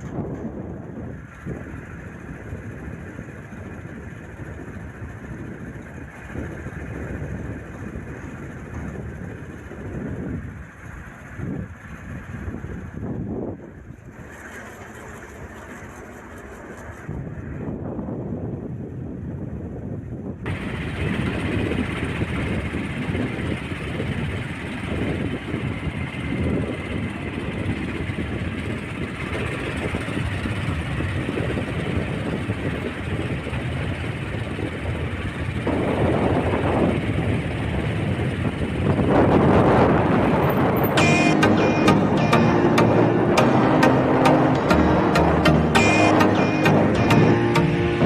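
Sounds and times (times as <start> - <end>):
moving vehicle road noise: 0.0 - 48.0.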